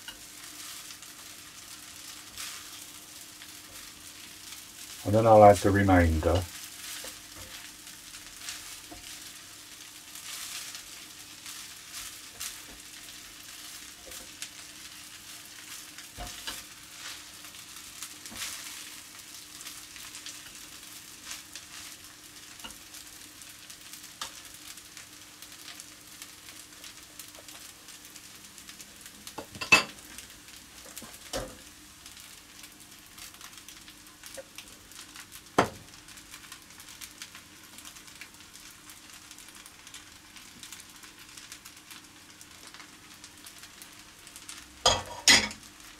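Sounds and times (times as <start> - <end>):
rice sizzling in a frying pan: 0.0 - 45.9.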